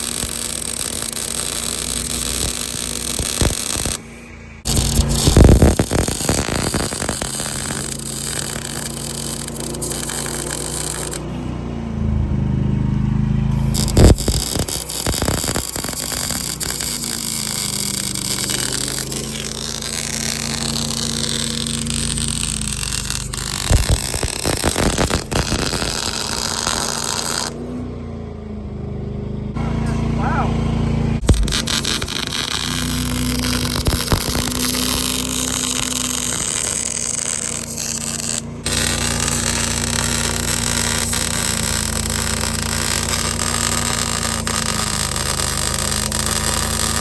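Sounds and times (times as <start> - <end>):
welder arc crackling: 0.0 - 11.4, 13.5 - 27.8, 31.2 - 47.0.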